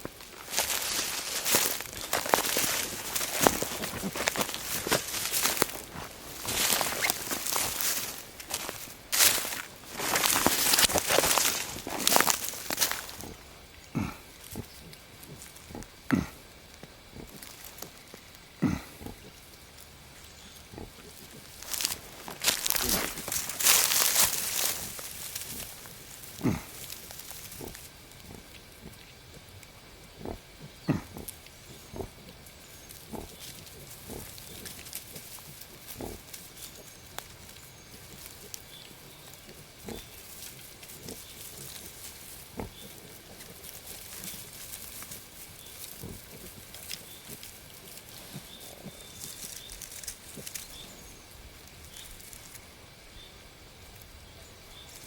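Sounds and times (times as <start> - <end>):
wild boars grunting: 0.0 - 52.3.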